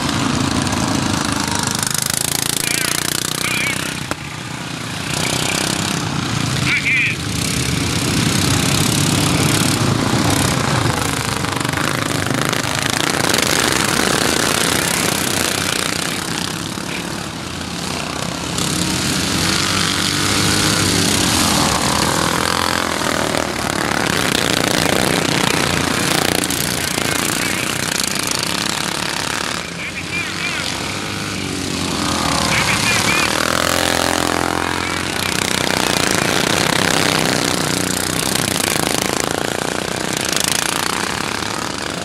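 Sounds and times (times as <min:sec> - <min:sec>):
racing lawn mower engines buzzing: 0:00.0 - 0:42.0.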